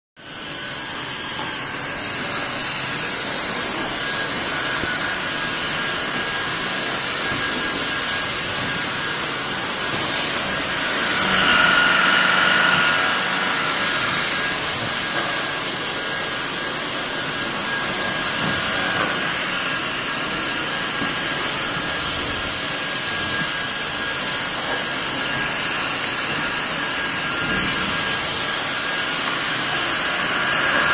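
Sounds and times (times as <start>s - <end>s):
vacuum cleaner running: 0.2s - 30.9s.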